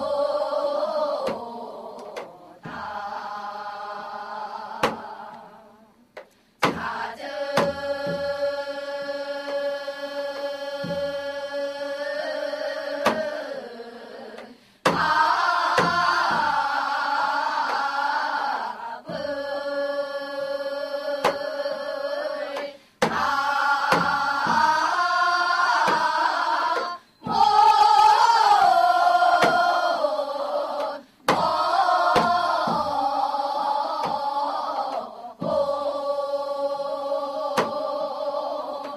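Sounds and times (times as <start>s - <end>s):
women singing folk song: 0.0s - 38.9s.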